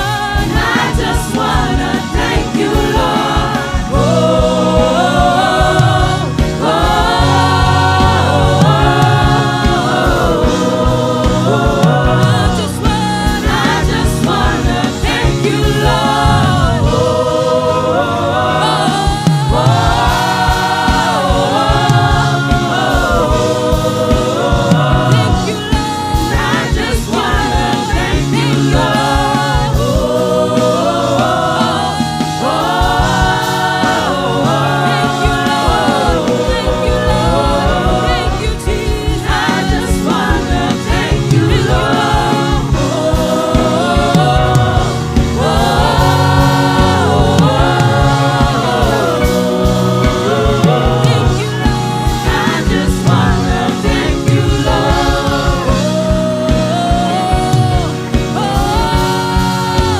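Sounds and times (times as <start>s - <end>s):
band with steady beat: 0.0s - 59.9s
gospel choir singing in harmony: 0.0s - 59.9s.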